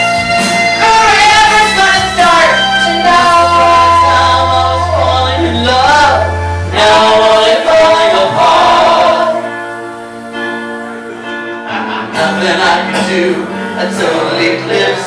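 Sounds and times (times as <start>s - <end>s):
backing music over speakers: 0.0s - 15.0s
two people singing a power ballad: 0.5s - 9.8s, 11.7s - 15.0s.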